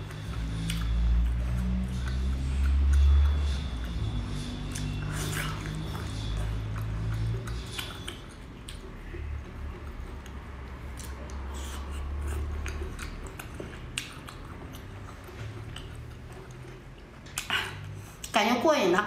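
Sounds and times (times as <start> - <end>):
chewing with wet clicks: 0.0 - 18.4.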